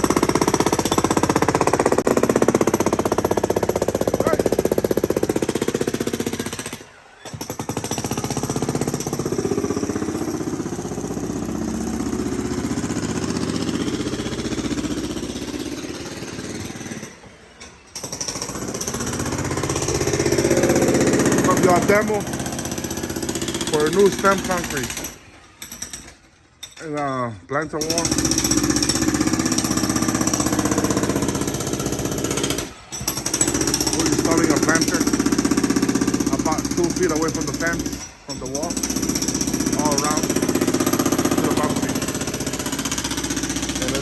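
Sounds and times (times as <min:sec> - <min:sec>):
jackhammer breaking concrete: 0:00.0 - 0:27.0, 0:27.7 - 0:44.0.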